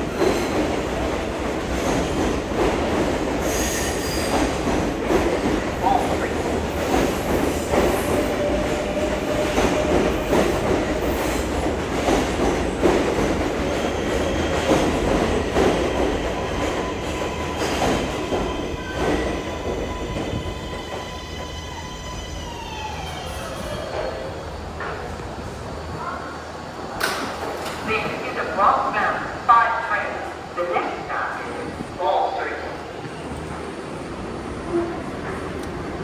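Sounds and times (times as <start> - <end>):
subway wheel and rail rumble: 0.0 - 36.0.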